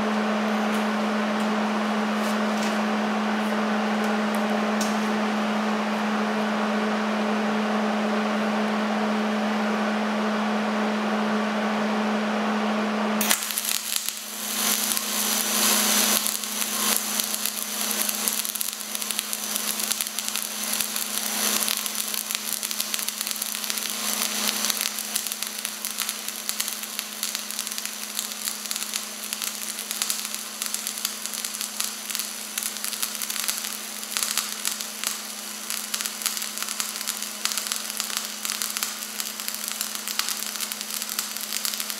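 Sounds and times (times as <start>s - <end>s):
welding arc crackling sizzle: 0.0s - 5.4s, 13.2s - 41.9s
welding machine humming: 0.0s - 9.8s, 13.2s - 41.9s.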